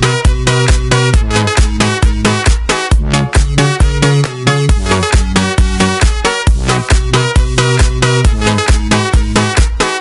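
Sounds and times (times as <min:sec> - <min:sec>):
heavy kick drum: 0:00.0 - 0:09.8
electronic dance music: 0:00.0 - 0:10.0.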